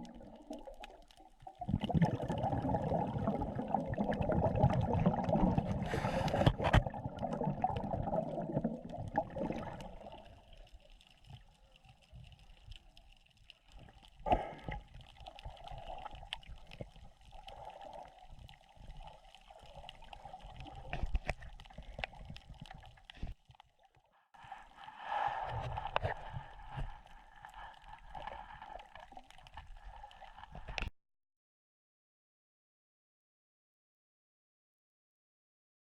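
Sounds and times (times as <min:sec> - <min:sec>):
water gurgling and sloshing: 0:00.0 - 0:30.9.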